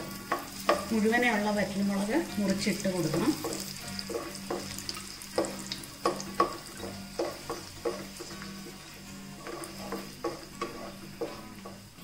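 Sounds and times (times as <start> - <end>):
oil sizzling: 0.0 - 12.0
wooden spatula scraping a wok: 0.0 - 12.0.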